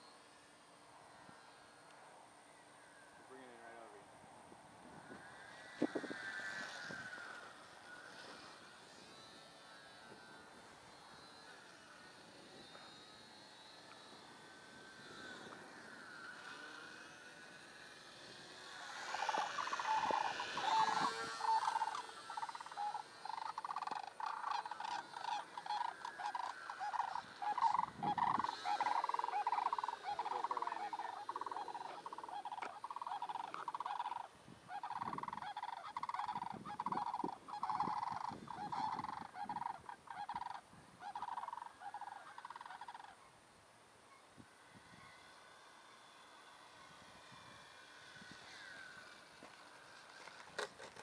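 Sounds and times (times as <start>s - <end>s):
model plane motor whining: 0.0s - 51.0s.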